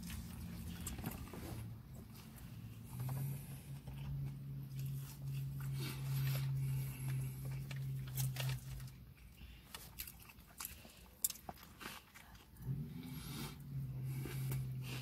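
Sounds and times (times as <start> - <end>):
low steady hum: 0.0 - 15.0
man chewing: 0.0 - 15.0.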